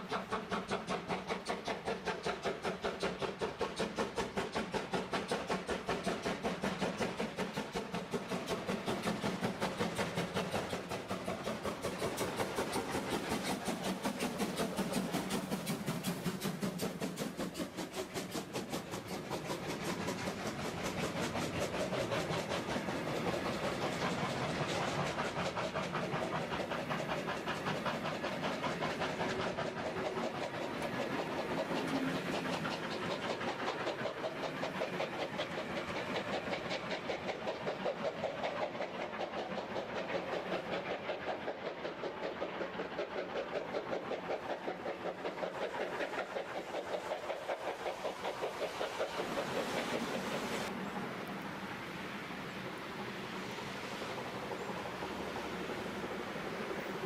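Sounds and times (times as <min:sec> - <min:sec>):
train wheels clattering over rail joints: 0:00.0 - 0:51.4
hissing steam: 0:00.0 - 0:57.0
steam locomotive exhaust beating: 0:00.0 - 0:57.0.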